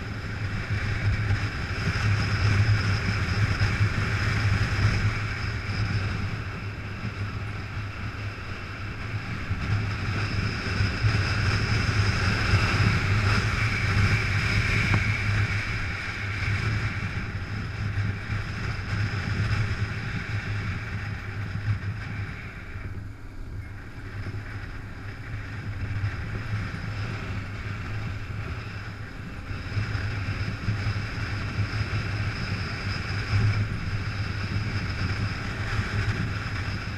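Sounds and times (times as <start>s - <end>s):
motorcycle engine running: 0.0s - 36.9s
wind rushing over camera: 0.0s - 36.9s.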